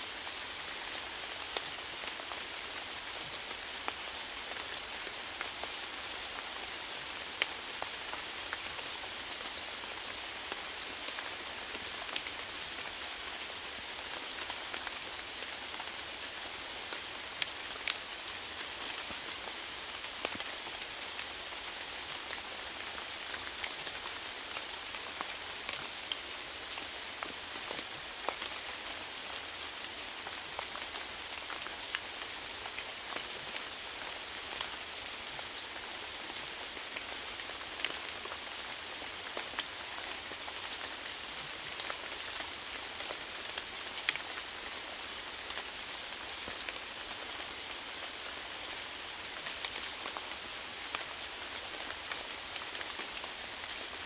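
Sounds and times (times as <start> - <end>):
steady rainfall hiss: 0.0 - 54.0
raindrops ticking on a surface: 0.1 - 54.0.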